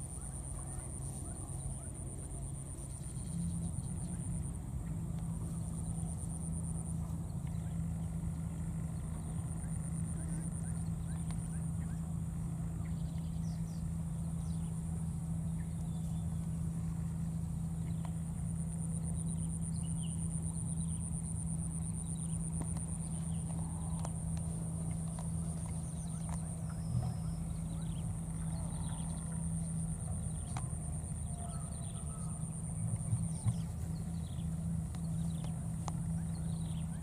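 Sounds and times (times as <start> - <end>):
constant low hum: 0.0 - 37.0
high pulsing insect trill: 0.0 - 37.0.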